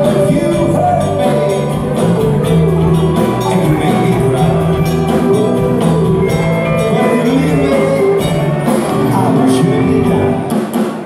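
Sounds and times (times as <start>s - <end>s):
person singing: 0.0s - 10.8s
drum kit: 0.0s - 11.0s
electric guitars: 0.0s - 11.0s
keyboard: 0.0s - 11.0s.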